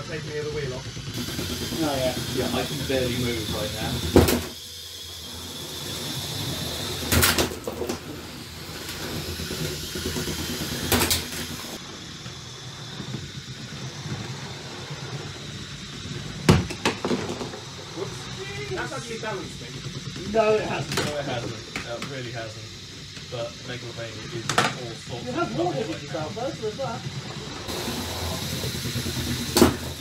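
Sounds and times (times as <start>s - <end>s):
whirring robot motors: 0.0s - 30.0s.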